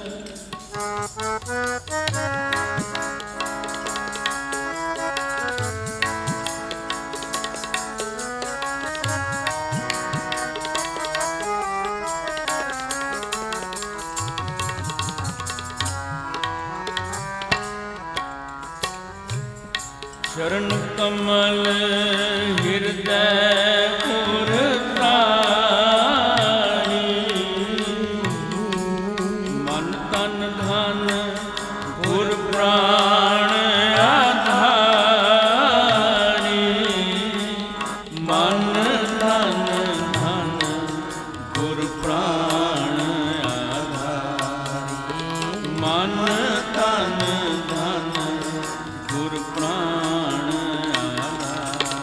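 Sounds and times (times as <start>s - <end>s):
sustained harmonium notes: 0.0s - 52.0s
tabla strokes: 0.2s - 52.0s.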